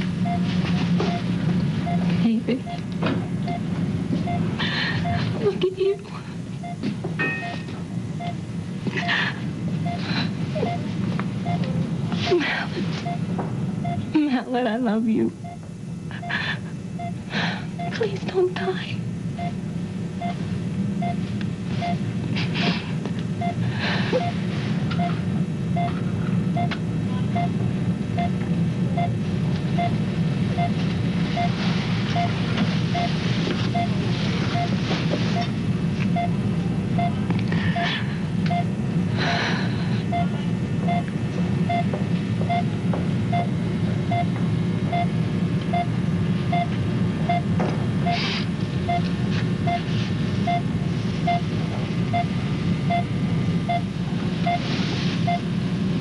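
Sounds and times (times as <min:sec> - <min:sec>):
heart monitor beeping: 0:00.0 - 0:05.4, 0:06.6 - 0:14.1, 0:15.4 - 0:18.1, 0:19.4 - 0:19.6, 0:20.2 - 0:22.8, 0:23.4 - 0:28.4, 0:29.0 - 0:29.2, 0:29.8 - 0:36.4, 0:37.0 - 0:37.2, 0:37.8 - 0:38.7, 0:40.0 - 0:55.5.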